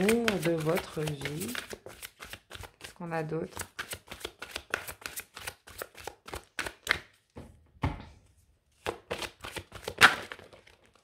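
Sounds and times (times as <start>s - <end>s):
cards being shuffled: 0.0s - 7.1s, 8.8s - 11.0s.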